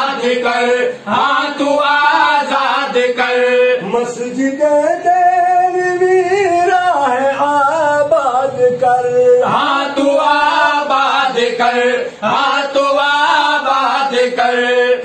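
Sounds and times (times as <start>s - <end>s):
men singing together: 0.0s - 15.0s.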